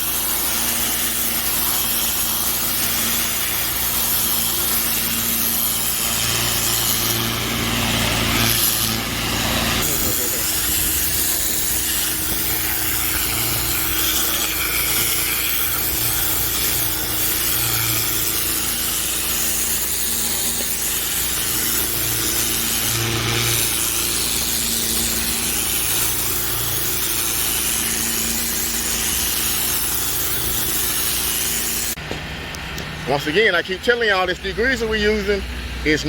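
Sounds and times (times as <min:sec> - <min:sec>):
pressure washer water jet hissing: 0:00.0 - 0:36.0
pump engine hum: 0:00.0 - 0:36.0.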